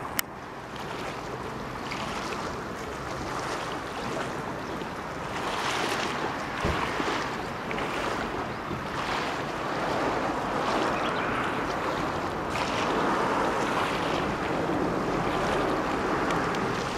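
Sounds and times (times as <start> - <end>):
small waves on a lake: 0.0 - 16.9
wind: 0.0 - 16.9.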